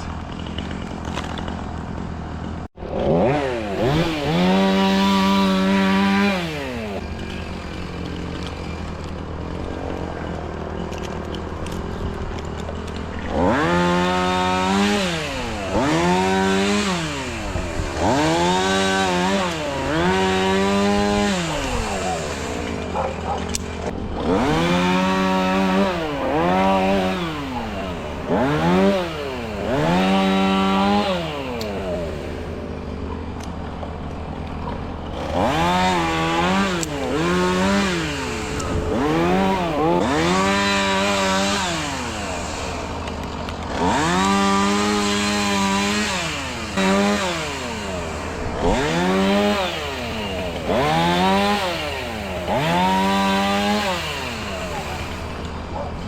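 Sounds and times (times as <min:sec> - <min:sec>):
chainsaw engine revving and idling: 0:00.0 - 0:56.0.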